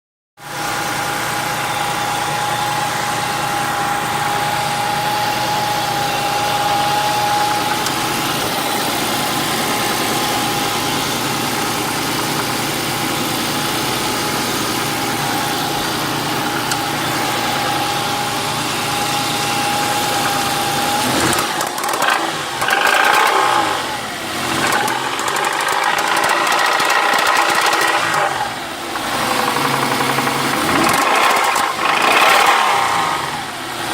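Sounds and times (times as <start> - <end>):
car engine running with knocking: 0.4 - 33.9
car engine revving: 0.6 - 33.9.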